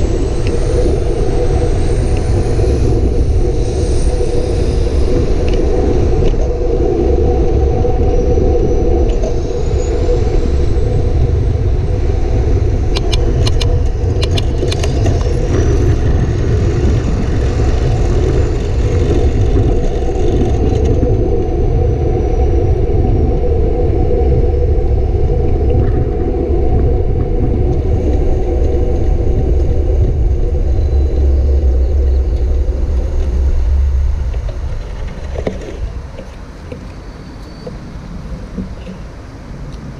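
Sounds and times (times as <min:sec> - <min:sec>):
wind and road noise rumble: 0:00.0 - 0:39.9.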